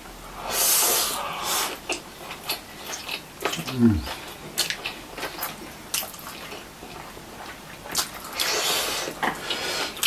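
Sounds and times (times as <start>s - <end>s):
noodles slurped and chewed: 0.5s - 10.0s.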